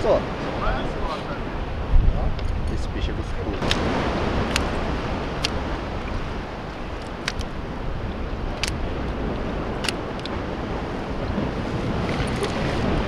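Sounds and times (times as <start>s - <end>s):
sea water washing against breakwater: 0.0s - 13.0s
wind rumbling on microphone: 0.0s - 13.0s.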